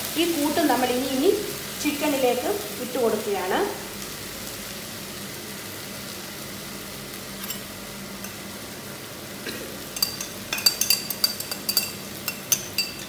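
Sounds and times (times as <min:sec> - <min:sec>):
chicken sizzling in pot: 0:00.0 - 0:13.0.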